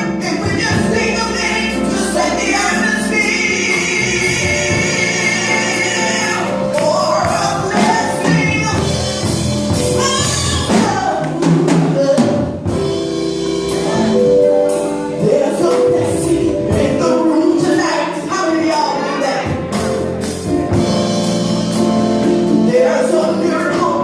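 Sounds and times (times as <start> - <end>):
drums: 0.0 - 24.0
voices singing gospel: 0.0 - 24.0.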